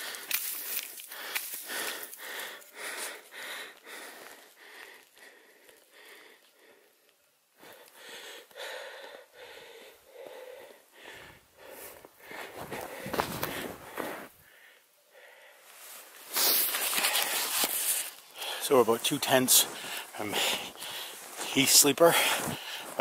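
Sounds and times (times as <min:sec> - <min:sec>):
person breathing hard: 0:00.0 - 0:18.8, 0:19.6 - 0:21.5, 0:22.1 - 0:23.0.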